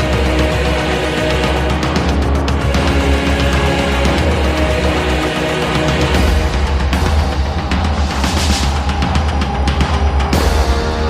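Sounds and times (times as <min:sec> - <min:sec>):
aggressive metal-like music: 0:00.0 - 0:11.0.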